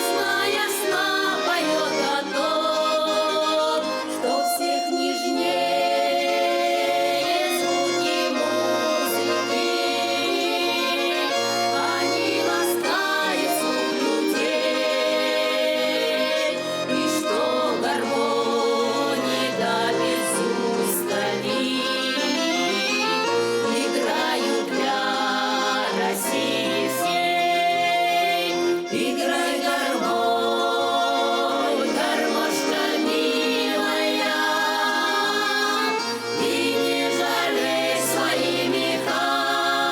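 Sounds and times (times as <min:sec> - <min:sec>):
accordion playing folk tune: 0:00.0 - 0:39.9.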